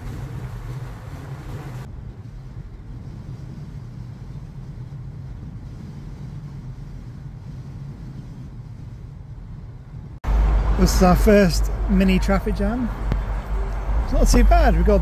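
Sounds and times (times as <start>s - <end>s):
road and engine rumble: 0.0s - 15.0s
wind and tyre hiss: 0.0s - 15.0s.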